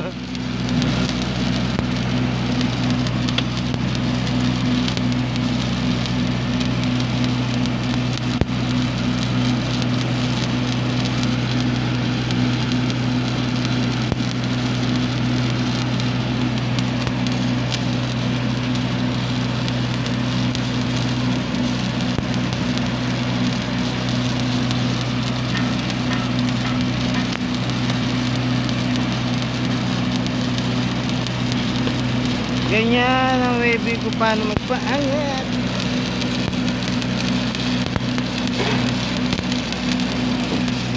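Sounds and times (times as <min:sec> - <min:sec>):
sharp welding pop: 0:00.0 - 0:32.8, 0:35.7 - 0:40.9
low hum: 0:00.0 - 0:40.9
welding arc crackling: 0:00.0 - 0:40.9.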